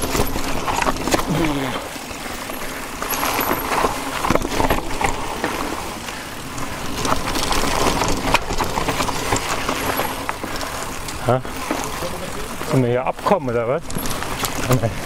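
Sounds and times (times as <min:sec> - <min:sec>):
bike knocking and rattling: 0:00.0 - 0:15.0
bike tyres rolling on trail: 0:00.0 - 0:15.0.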